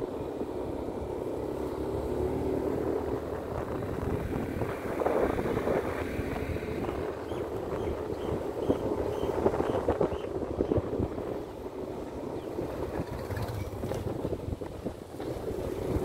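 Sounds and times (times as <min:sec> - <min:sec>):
scooter engine running: 0:00.0 - 0:16.0
wind rushing over microphone: 0:00.0 - 0:16.0.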